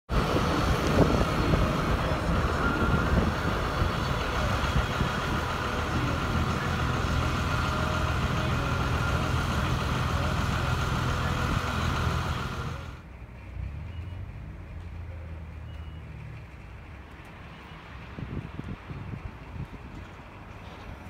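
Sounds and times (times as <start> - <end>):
vehicle engine and road rumble: 0.1 - 21.0.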